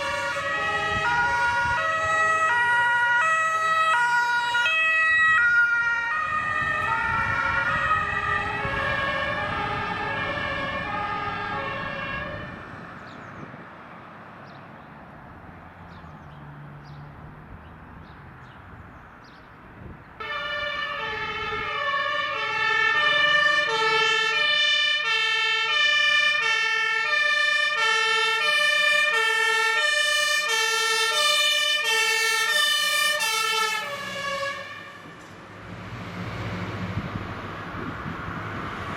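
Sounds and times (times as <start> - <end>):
two-tone fire engine siren: 0.0 - 12.9, 20.2 - 38.9
vehicle and road rumble: 0.0 - 38.9.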